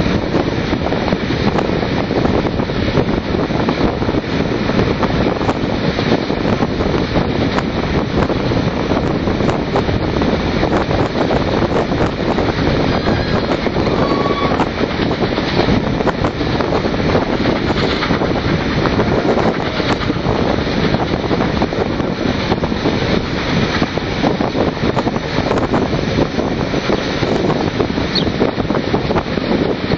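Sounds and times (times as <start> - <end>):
train running noise: 0.0 - 29.9
wind buffeting microphone: 0.0 - 29.9.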